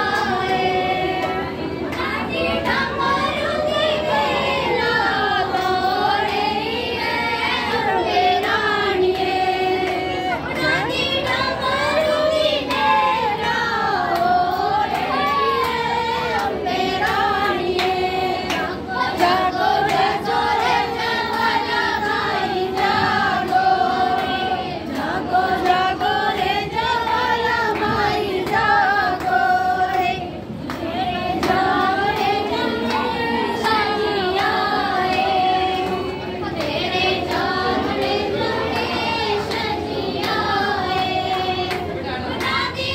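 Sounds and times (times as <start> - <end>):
rhythmic handclaps: 0.0 - 42.9.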